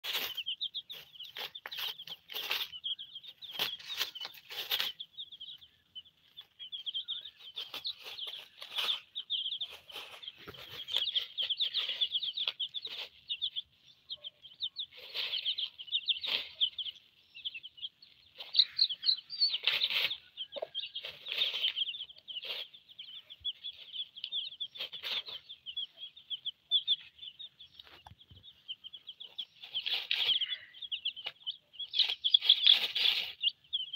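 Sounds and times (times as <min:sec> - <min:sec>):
birds scratching in dry litter: 0:00.0 - 0:33.9
chicks peeping: 0:00.0 - 0:33.9
hen clucking: 0:00.0 - 0:33.9.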